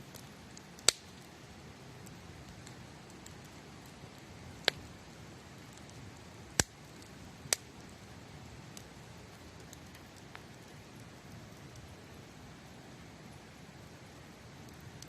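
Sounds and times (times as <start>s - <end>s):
campfire crackling and popping: 0.0s - 15.0s
steady low hiss: 0.0s - 15.0s.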